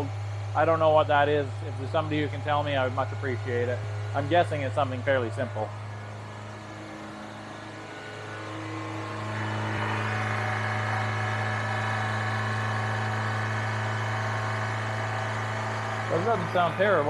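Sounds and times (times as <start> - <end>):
car engine at high idle: 0.0 - 17.0.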